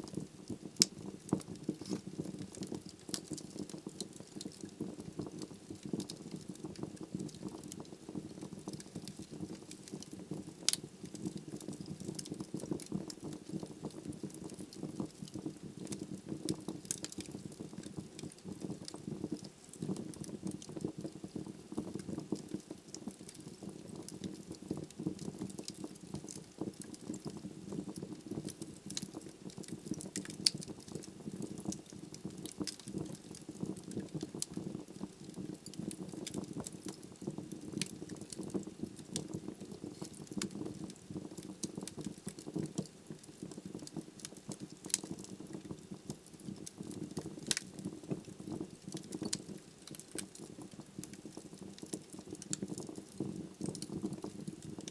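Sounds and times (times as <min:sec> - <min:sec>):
fire crackling and popping: 0:00.0 - 0:54.9
fire low rumble: 0:00.0 - 0:54.9.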